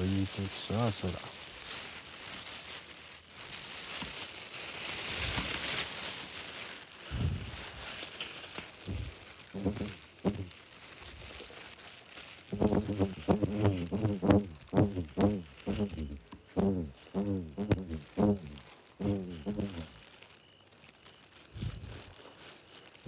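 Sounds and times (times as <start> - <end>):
faint high insect buzz: 0.0 - 23.0
rustling through water and weeds: 0.0 - 23.0.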